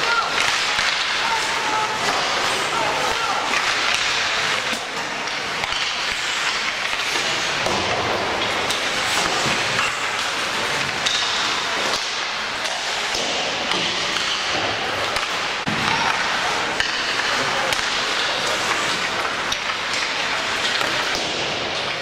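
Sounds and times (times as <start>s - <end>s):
faint voices: 0.0s - 22.0s.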